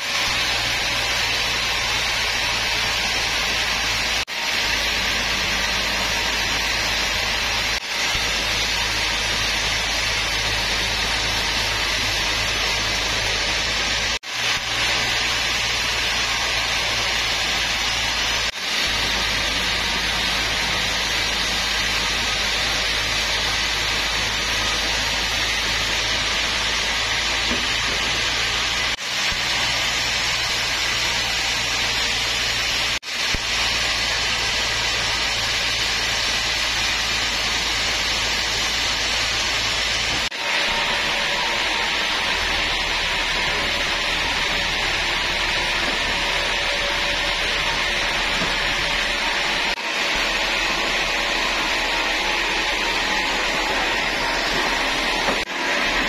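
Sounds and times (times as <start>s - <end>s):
steady motor hum: 0.0s - 56.0s.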